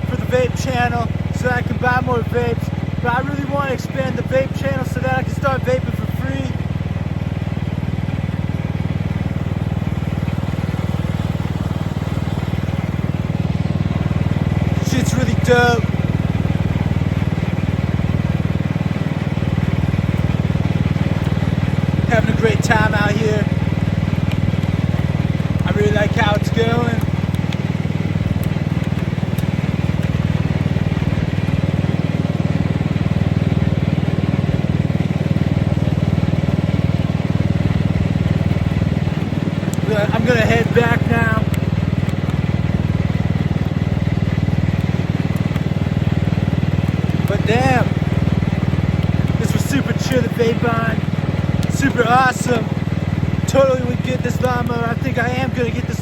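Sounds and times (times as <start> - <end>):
riding lawn mower engine chugging: 0.0 - 56.0.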